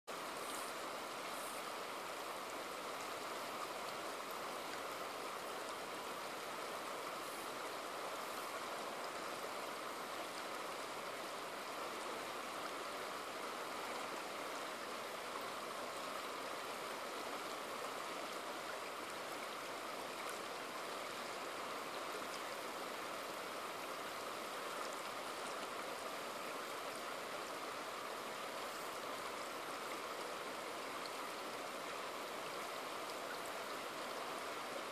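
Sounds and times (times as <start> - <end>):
river rushing over boulders: 0.1 - 34.9.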